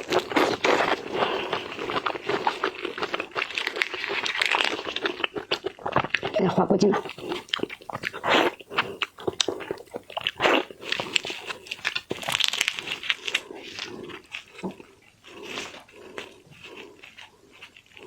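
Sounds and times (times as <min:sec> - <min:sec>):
wet chewing and slurping: 0:00.0 - 0:18.0.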